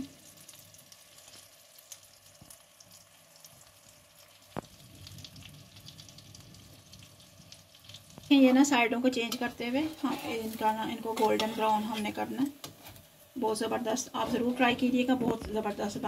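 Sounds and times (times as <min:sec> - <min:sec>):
bread sizzling in butter: 0:00.0 - 0:16.0.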